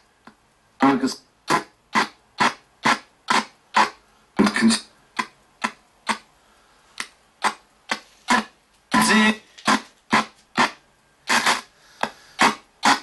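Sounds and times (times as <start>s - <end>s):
radio static bursts: 0.8s - 6.3s, 7.4s - 13.0s.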